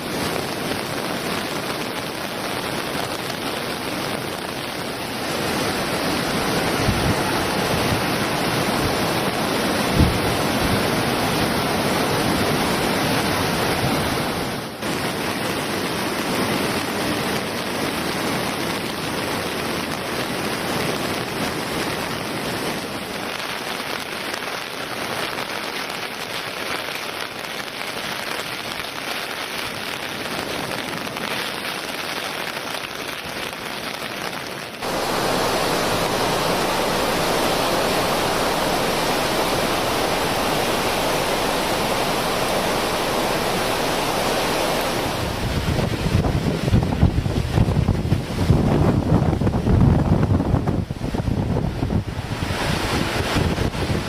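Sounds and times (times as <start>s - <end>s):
flooded river rushing: 0.0s - 54.0s
heavy rain: 0.0s - 54.0s.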